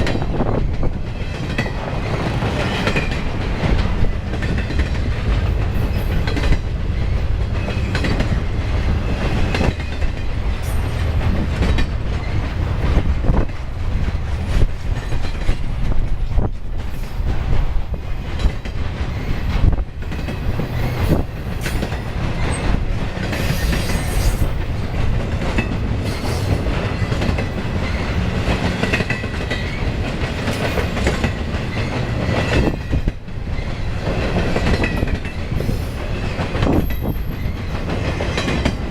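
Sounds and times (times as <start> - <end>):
freight train rolling past: 0.0 - 38.9
wheels clacking over rail joints: 0.0 - 38.9.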